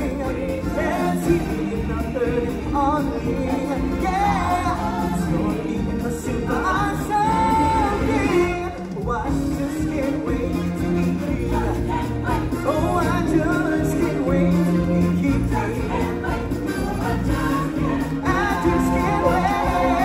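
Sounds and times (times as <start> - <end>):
band accompaniment: 0.0 - 20.0
ensemble singing: 0.0 - 20.0.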